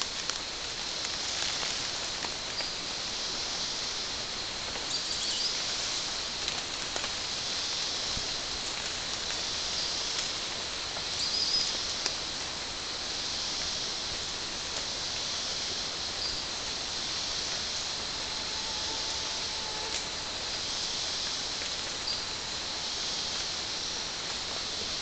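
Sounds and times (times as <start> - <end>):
high-pitched hiss: 0.0 - 25.0.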